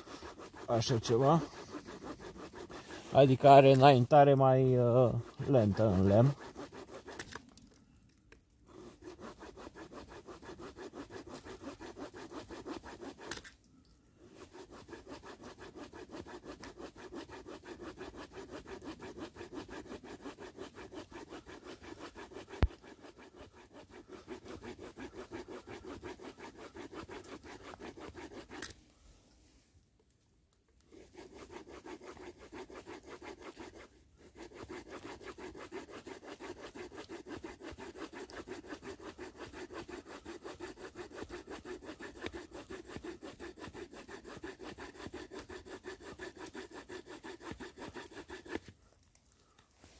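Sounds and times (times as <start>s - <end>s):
saw cutting wood: 0.0s - 7.4s, 8.7s - 13.6s, 14.2s - 28.8s, 30.9s - 48.8s.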